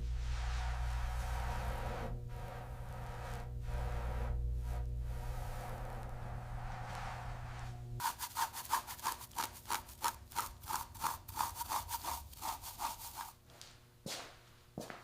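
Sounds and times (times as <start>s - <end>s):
hand rubbing on a surface: 0.1s - 13.4s.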